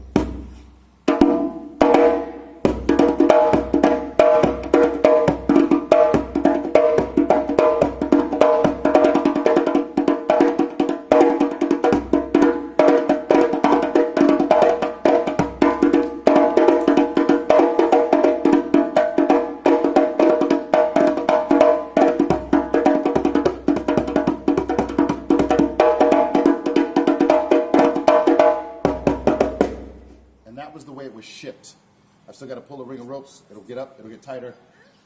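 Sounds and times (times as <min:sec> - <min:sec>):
djembe played by hand: 0:00.0 - 0:00.5, 0:01.1 - 0:30.1.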